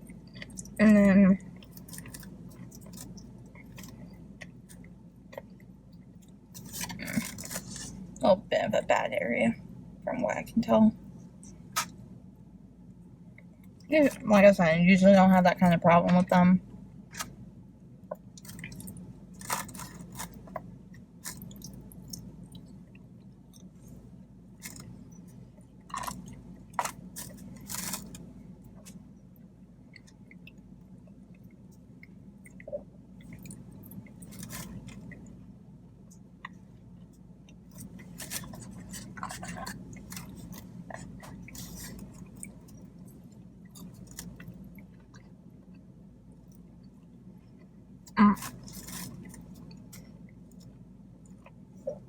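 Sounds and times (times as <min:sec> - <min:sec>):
person chewing food: 0:00.0 - 0:00.8, 0:01.4 - 0:08.2, 0:11.1 - 0:12.2, 0:17.0 - 0:52.0.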